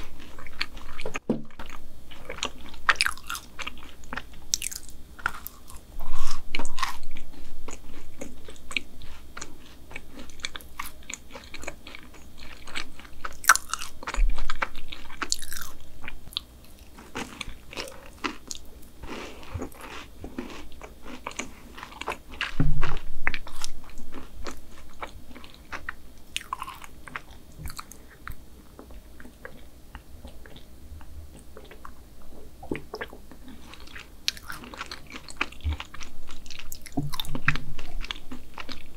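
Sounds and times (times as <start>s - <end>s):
close chewing and biting: 0.0s - 32.0s, 32.6s - 38.9s.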